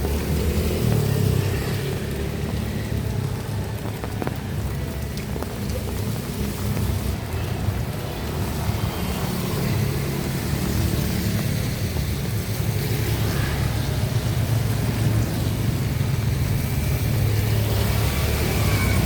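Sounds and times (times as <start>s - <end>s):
rain and tyres hissing: 0.0s - 19.0s.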